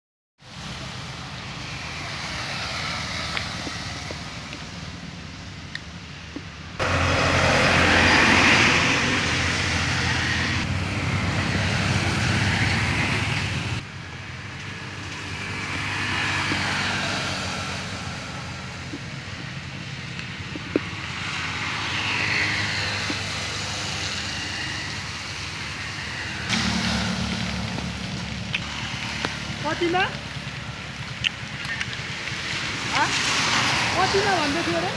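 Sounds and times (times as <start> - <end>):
motorcycles passing on wet road: 0.4 - 6.1, 6.7 - 34.9
low engine hum: 0.5 - 34.9.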